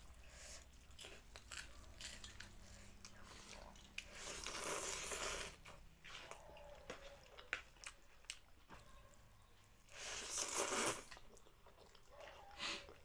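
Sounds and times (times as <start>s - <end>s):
chewing with crunches: 0.0s - 13.0s.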